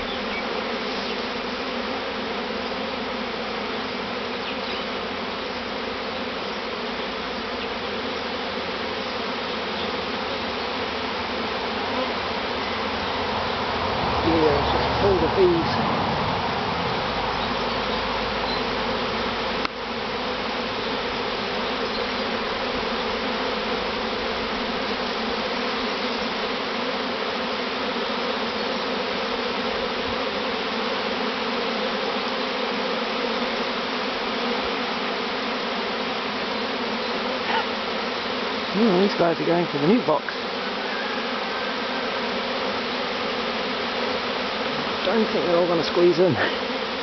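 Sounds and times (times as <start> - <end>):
bee swarm buzzing: 0.0 - 47.0.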